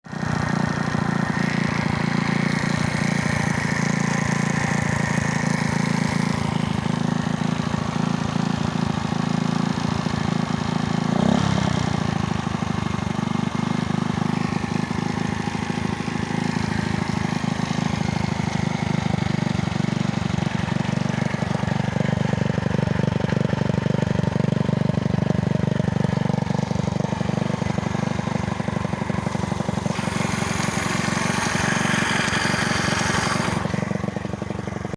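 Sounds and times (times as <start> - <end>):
engine idling with knocking: 0.0 - 34.9.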